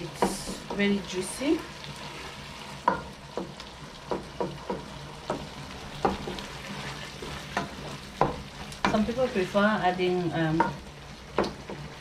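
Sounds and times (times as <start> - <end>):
steady sizzle: 0.0 - 12.0.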